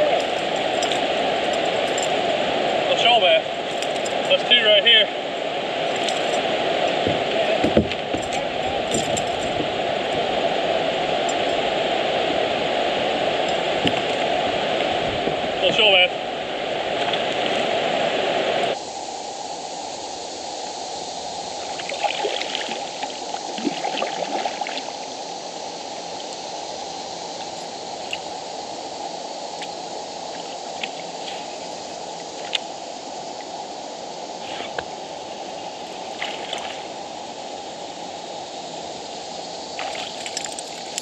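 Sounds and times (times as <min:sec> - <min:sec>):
river water rushing over rocks: 0:00.0 - 0:41.0.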